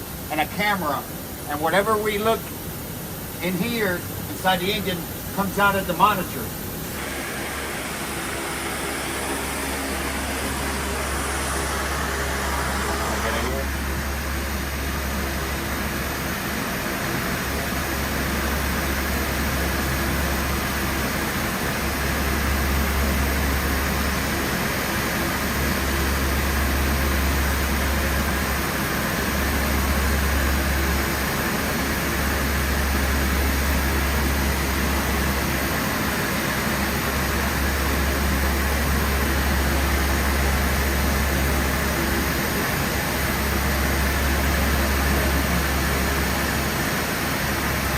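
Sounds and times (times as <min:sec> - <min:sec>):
machinery drone with hiss: 0:00.0 - 0:47.9.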